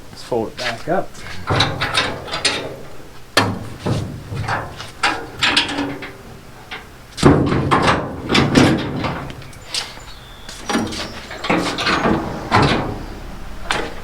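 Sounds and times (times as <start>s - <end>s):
light metal clanks: 0.2s - 14.0s
tailgate slamming shut: 1.4s - 14.0s.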